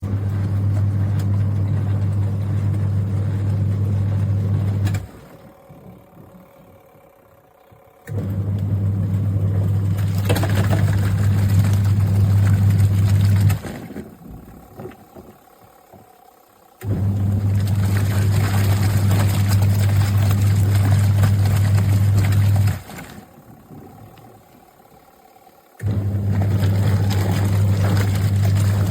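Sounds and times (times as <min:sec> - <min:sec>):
washing machine motor humming: 0:00.0 - 0:28.9.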